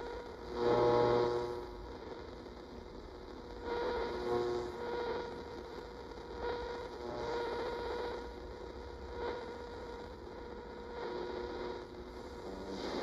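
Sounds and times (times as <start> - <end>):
radio static hiss and hum: 0.0 - 13.0.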